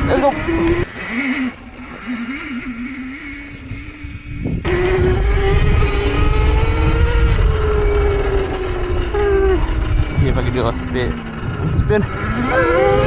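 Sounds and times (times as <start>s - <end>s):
electric motor whining: 0.6s - 13.0s.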